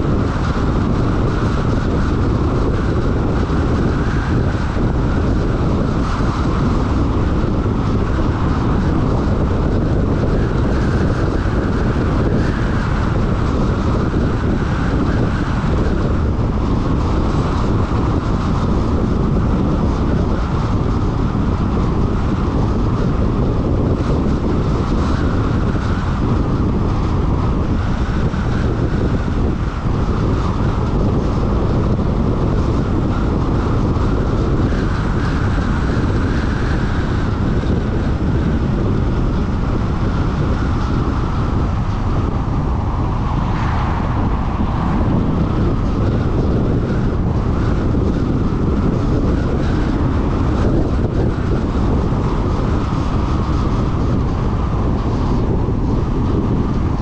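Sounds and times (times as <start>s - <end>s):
car road noise: 0.0s - 57.0s
wind rumbling on microphone: 0.0s - 57.0s.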